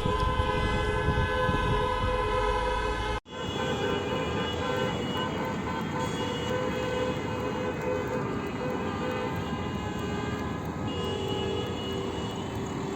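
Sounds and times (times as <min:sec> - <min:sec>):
many car horns honking: 0:00.0 - 0:12.9
traffic noise: 0:00.0 - 0:12.9.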